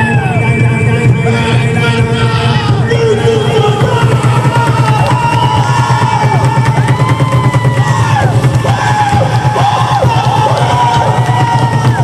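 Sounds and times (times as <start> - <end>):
high tones rising and falling: 0.0 - 12.0
fast drumbeat: 1.0 - 12.0.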